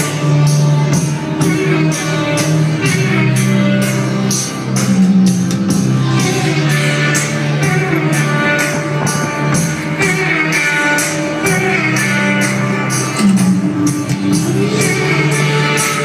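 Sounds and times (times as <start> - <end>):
steady percussion beat: 0.0 - 16.0.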